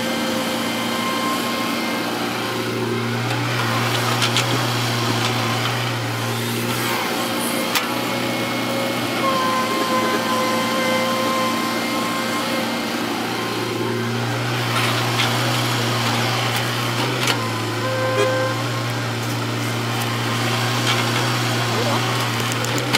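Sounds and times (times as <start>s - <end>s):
heavy diesel machinery humming: 0.0s - 22.9s.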